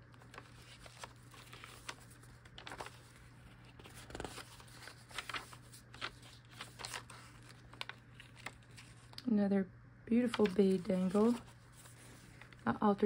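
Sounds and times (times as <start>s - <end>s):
paper pages rustling: 0.0s - 9.2s, 10.2s - 12.8s
low steady hum: 0.0s - 13.0s.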